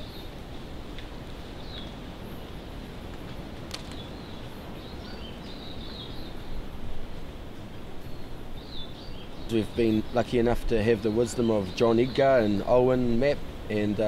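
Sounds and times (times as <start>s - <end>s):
birds calling: 0.0s - 0.4s, 1.4s - 14.0s
background hiss: 0.0s - 14.0s.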